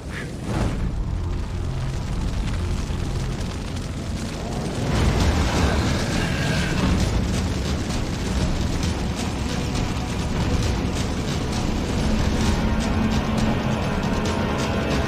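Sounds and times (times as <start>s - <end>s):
rumbling eruption with booms: 0.0s - 15.0s.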